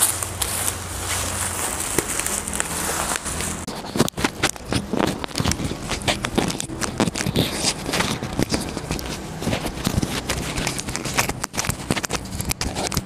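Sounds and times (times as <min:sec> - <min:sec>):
bubble wrap rustling and crackling: 0:00.0 - 0:13.0.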